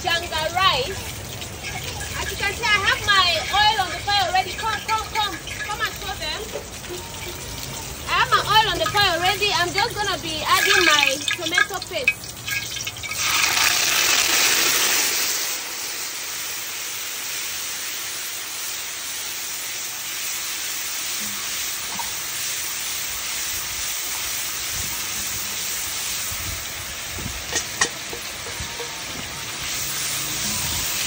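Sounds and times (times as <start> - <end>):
paste sizzling in hot oil: 0.0 - 31.0.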